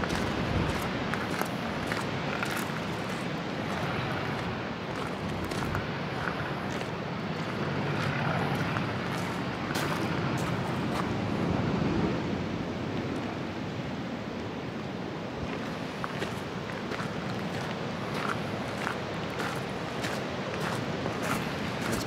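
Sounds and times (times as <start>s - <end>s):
rain: 0.0s - 22.0s
storm wind: 0.0s - 22.0s.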